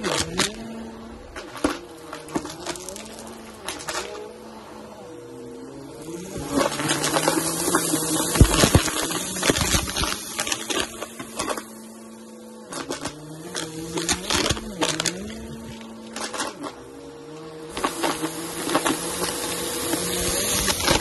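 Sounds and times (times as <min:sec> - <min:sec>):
lentils rattling in vacuum: 0:00.0 - 0:21.0
vacuum cleaner motor humming: 0:00.0 - 0:21.0.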